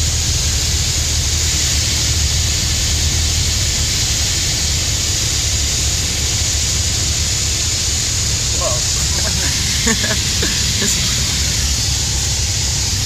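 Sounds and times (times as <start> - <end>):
aircraft piston engine drone: 0.0 - 13.0
rush of air in cockpit: 0.7 - 13.0.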